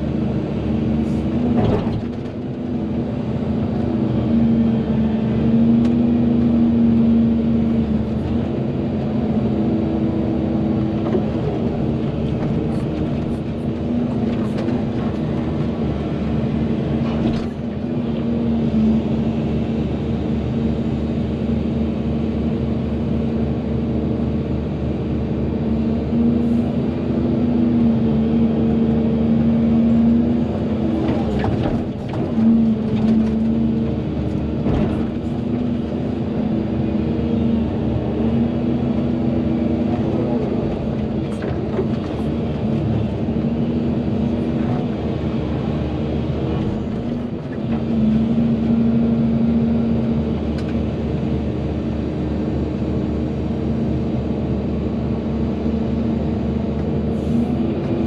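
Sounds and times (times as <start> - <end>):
excavator engine and hydraulics droning: 0.0 - 58.0.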